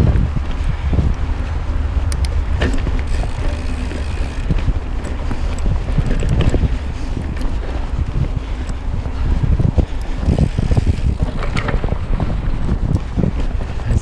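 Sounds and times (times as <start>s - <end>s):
bike clicks and rattles: 0.0s - 14.0s
tyre rumble: 0.0s - 14.0s
wind buffeting microphone: 0.0s - 14.0s.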